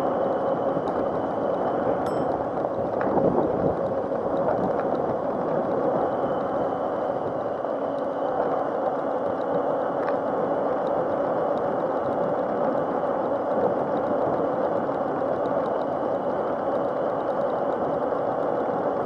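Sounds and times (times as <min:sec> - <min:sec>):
tyre and wind noise: 0:00.0 - 0:19.0.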